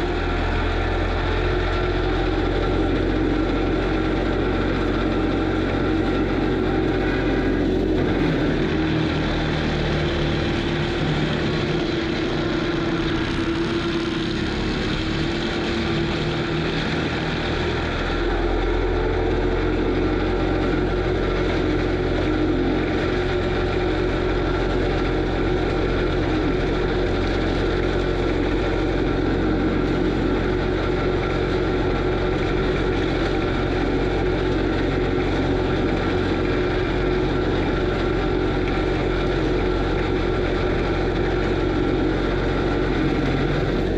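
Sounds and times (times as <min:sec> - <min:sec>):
diesel engine and hydraulics droning: 0:00.0 - 0:43.9
mulcher whining: 0:00.0 - 0:43.9.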